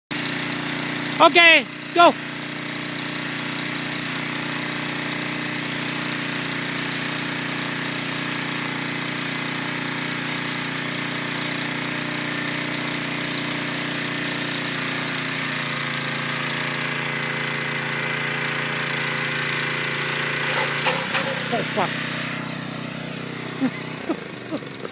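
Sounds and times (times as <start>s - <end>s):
small engine running: 0.1s - 24.9s.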